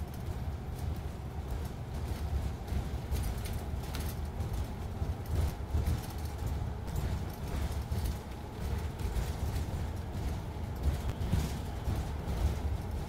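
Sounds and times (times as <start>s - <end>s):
bus engine and road rumble: 0.0s - 13.0s
light rattles and knocks: 0.0s - 13.0s.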